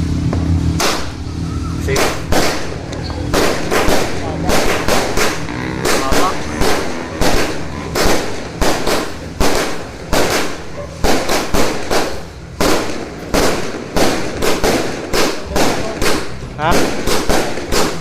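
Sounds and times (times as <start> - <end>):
fireworks exploding: 0.3 - 18.0.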